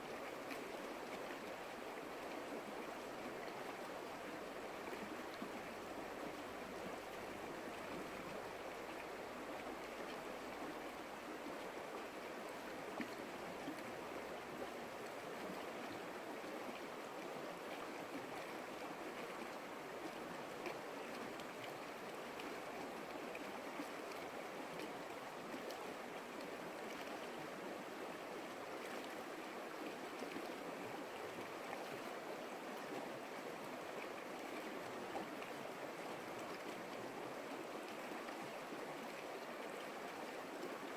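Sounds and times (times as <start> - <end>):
creek flowing: 0.0 - 40.9.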